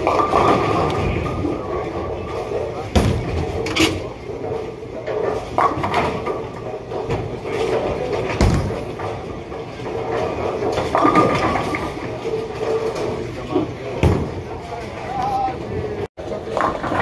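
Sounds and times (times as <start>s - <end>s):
bowling pins clattering: 0.0s - 15.0s
balls rumbling on lanes: 0.0s - 17.0s.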